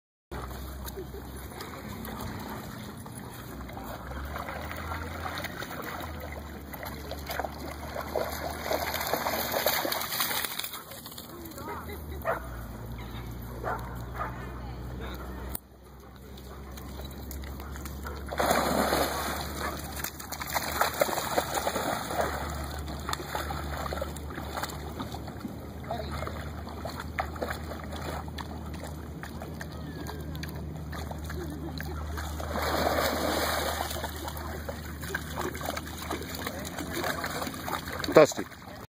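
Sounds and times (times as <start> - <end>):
water sloshing and splashing: 0.4 - 11.9, 16.6 - 38.8.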